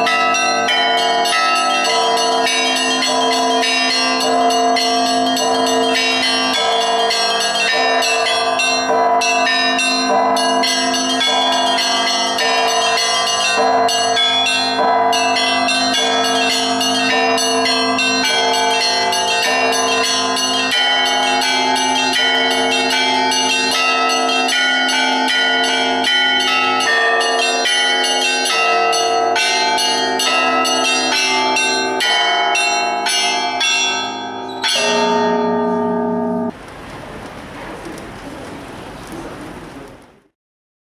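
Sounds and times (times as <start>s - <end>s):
large bells ringing: 0.0s - 38.5s.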